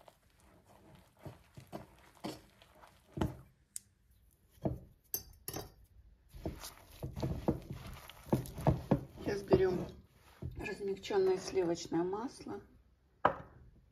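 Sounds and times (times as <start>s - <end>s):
hands kneading wet dough: 0.0s - 5.2s, 5.8s - 12.4s.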